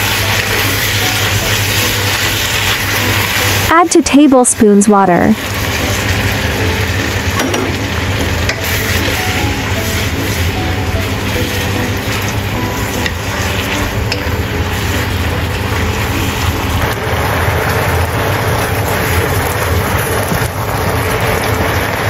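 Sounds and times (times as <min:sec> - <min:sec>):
leaves sizzling in a wok: 0:00.0 - 0:04.7, 0:05.3 - 0:22.0.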